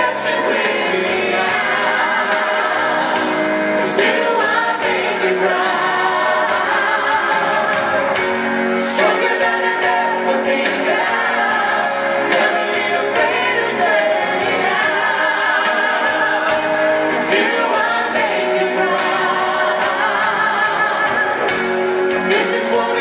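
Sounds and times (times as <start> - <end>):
backing music: 0.0 - 23.0
man and woman singing pop: 0.0 - 23.0.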